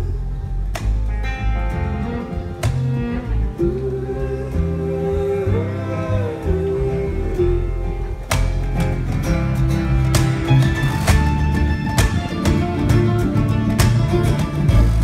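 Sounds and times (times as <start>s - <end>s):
acoustic guitar: 0.0s - 15.0s
electric upright bass: 0.0s - 15.0s.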